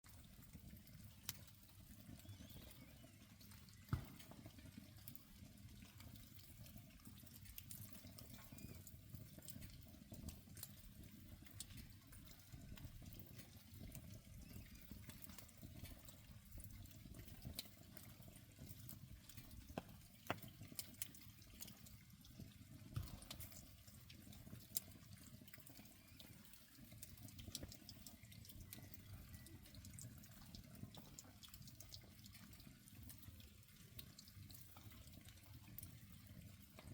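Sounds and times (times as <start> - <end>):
campfire popping: 0.1 - 36.9.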